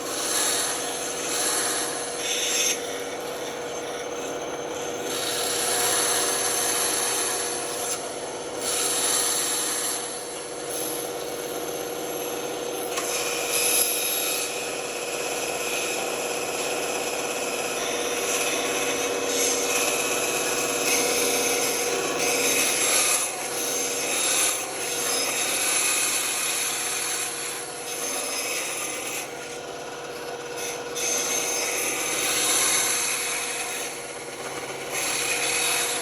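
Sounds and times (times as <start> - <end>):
band saw cutting wood: 0.0 - 36.0.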